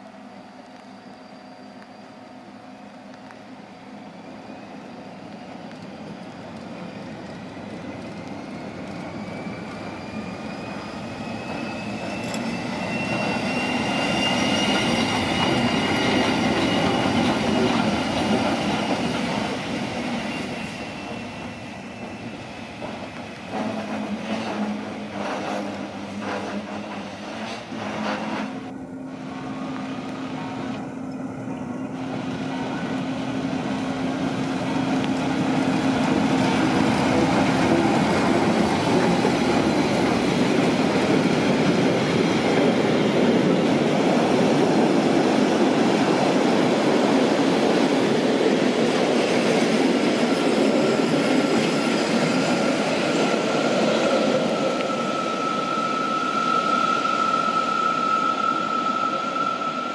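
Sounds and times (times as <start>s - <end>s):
electric locomotive hum: 0.0s - 59.9s
train wheels squealing: 0.2s - 59.9s.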